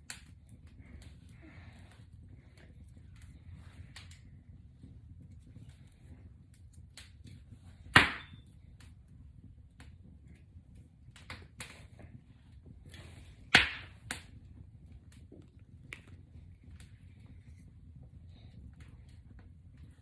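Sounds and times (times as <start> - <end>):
braided hair crackling and rustling: 0.0 - 20.0.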